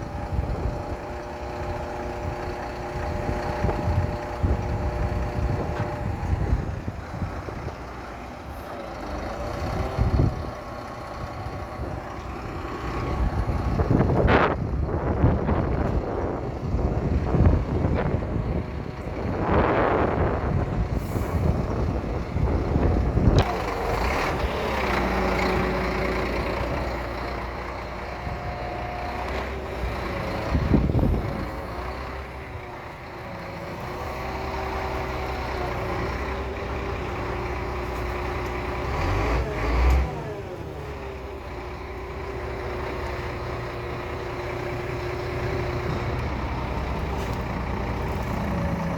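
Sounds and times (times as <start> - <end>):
truck engine running: 0.0 - 48.9.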